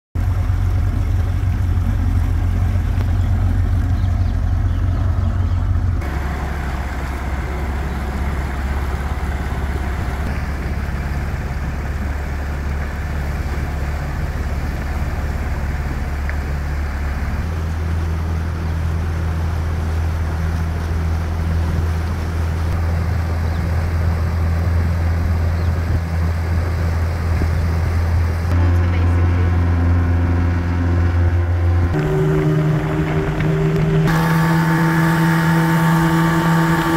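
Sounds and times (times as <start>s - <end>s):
outboard motor running: 0.2s - 36.9s.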